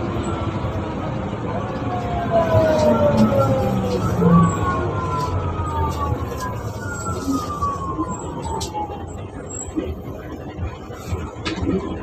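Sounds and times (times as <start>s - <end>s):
bus drivetrain whine: 0.0s - 12.0s
low engine rumble: 0.0s - 12.0s.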